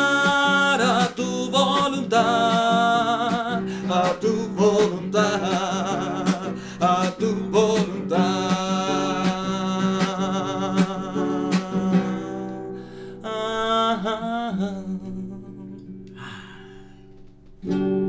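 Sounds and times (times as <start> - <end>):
person singing long wavering notes: 0.0 - 17.0
guitar: 0.0 - 18.0.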